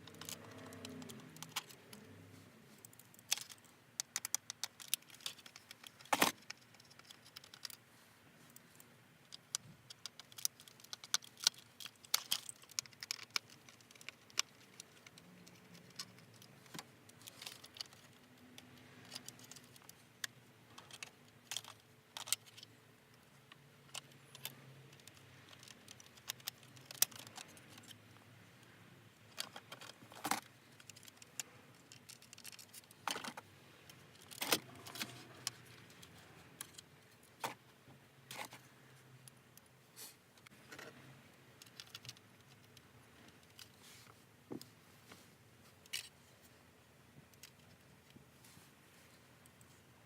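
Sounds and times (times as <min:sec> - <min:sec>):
small hard parts clicking and rattling: 0:00.0 - 0:39.7, 0:40.4 - 0:44.7, 0:45.7 - 0:46.2, 0:47.2 - 0:48.2.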